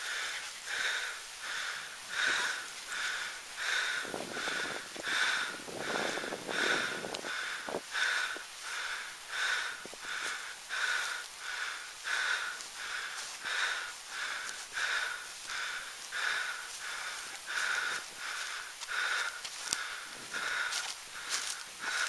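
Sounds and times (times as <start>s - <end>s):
person breathing hard: 0.0s - 22.0s.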